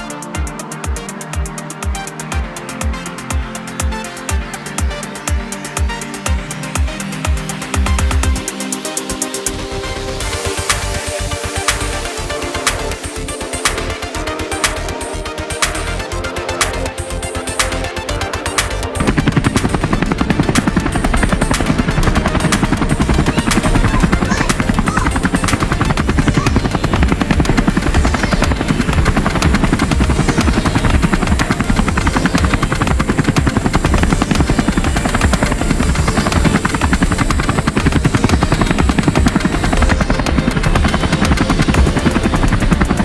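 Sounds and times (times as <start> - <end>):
toy helicopter rotors whirring: 3.6 - 43.0.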